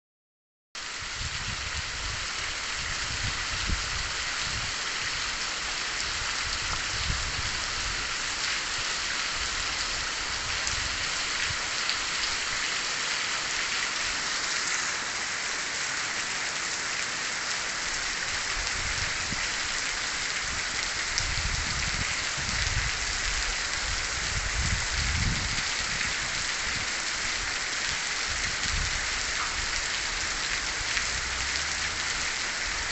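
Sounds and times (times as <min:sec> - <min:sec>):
heavy rain pattering: 0:01.0 - 0:32.9.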